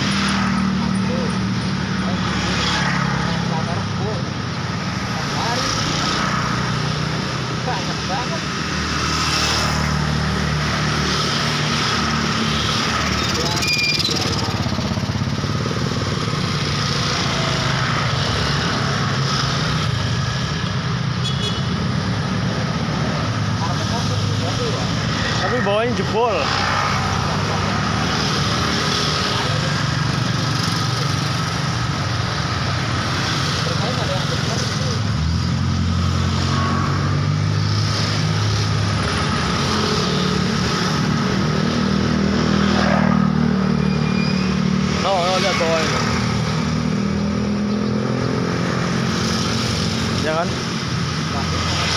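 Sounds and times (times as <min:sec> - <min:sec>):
vehicle engines passing: 0:00.0 - 0:51.9.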